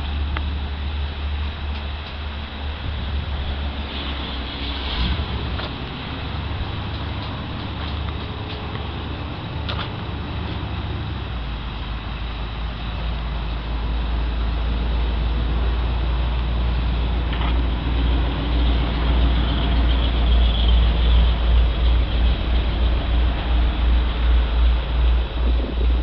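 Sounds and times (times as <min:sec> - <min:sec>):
outdoor rumble with hiss: 0:00.0 - 0:26.0.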